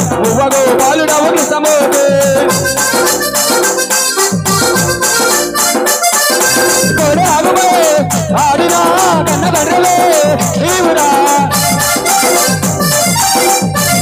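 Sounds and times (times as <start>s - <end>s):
drum band playing fast rhythm: 0.0s - 14.0s
pitched melody line: 0.0s - 14.0s.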